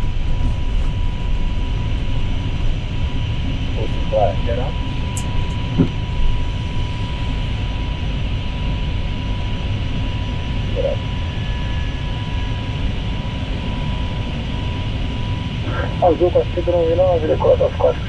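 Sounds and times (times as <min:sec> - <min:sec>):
aircraft engine and airflow noise: 0:00.0 - 0:18.0.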